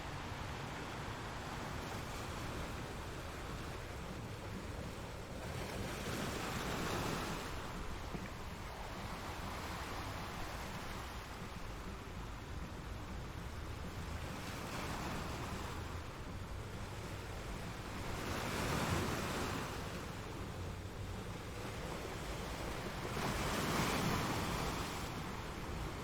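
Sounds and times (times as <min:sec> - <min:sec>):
ocean waves breaking: 0:00.0 - 0:26.0.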